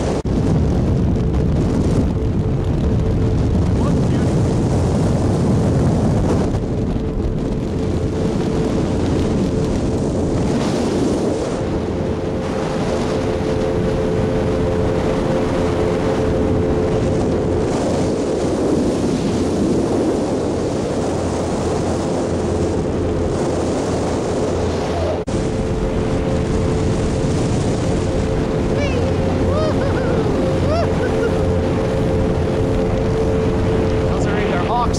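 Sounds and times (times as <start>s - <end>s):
motorboat engine running: 0.0s - 34.9s.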